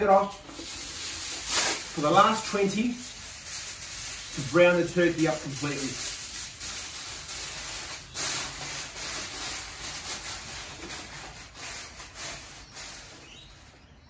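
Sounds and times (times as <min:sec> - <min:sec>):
aluminium foil crinkling: 0:00.0 - 0:13.8.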